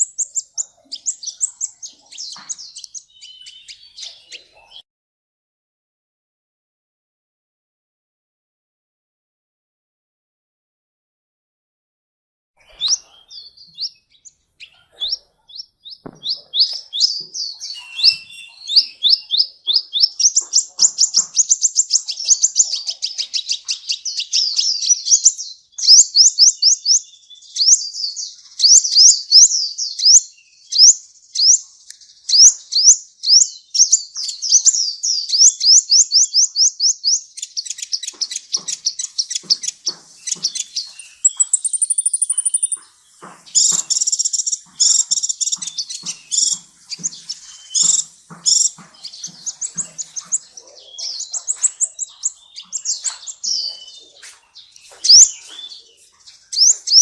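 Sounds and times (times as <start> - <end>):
bird chattering song: 0.0 - 4.8, 12.6 - 57.0.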